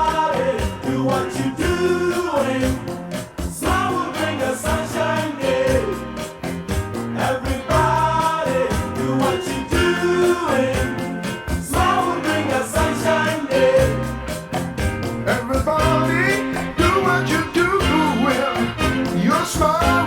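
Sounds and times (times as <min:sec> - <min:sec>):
pop song with singing: 0:00.0 - 0:20.0.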